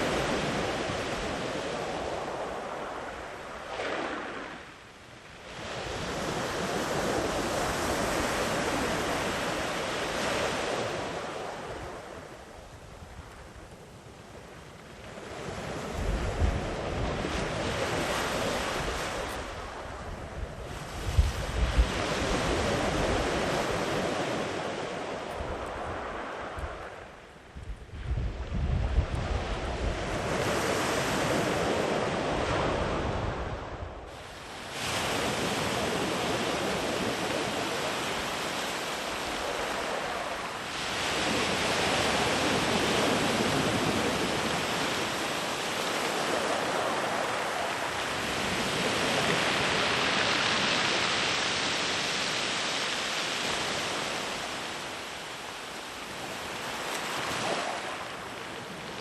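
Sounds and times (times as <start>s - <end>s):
sea waves washing up beach: 0.0s - 13.5s, 14.4s - 27.3s, 28.8s - 59.0s.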